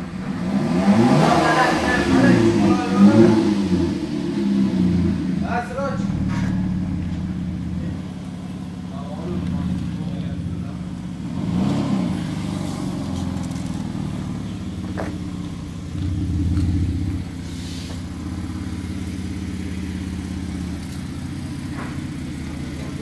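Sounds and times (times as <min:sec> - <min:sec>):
suv engine idling: 0:00.0 - 0:23.0.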